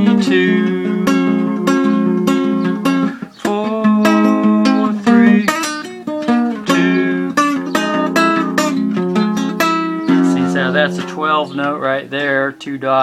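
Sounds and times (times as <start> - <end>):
acoustic guitar arpeggio: 0.0 - 13.0.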